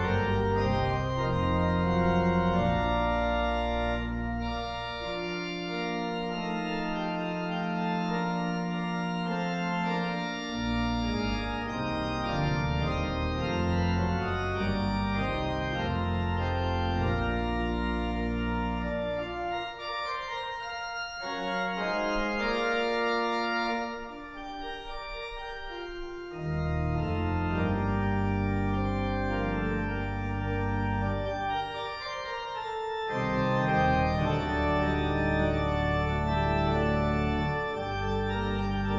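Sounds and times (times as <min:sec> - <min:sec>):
low organ bass line: 0:00.0 - 0:38.9
organ playing slow chords: 0:00.0 - 0:38.9.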